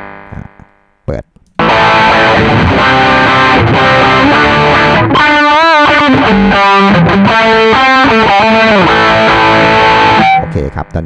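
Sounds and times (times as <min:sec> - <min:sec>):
distorted electric guitar lead: 0:00.0 - 0:11.0.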